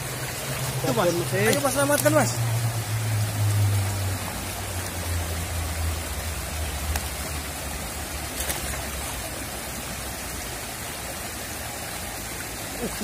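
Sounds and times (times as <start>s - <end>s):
fast-flowing river rushing: 0.0s - 13.0s.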